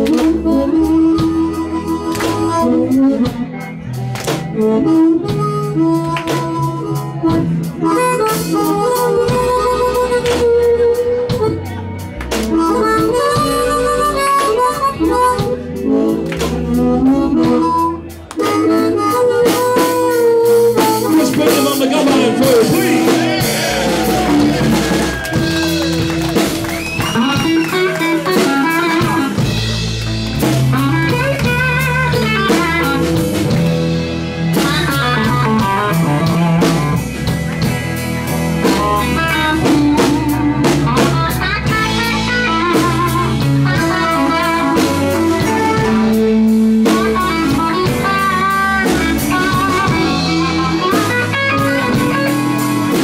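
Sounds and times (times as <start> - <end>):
blues rock band playing: 0.0 - 53.0
harmonica solo: 0.0 - 53.0.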